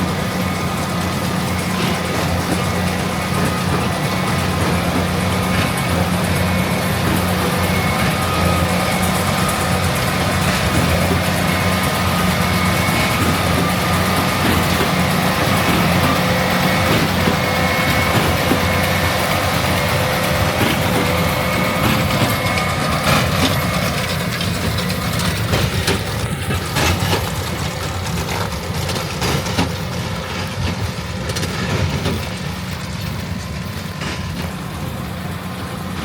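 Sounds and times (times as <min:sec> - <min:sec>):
farm machinery engine drone: 0:00.0 - 0:36.0.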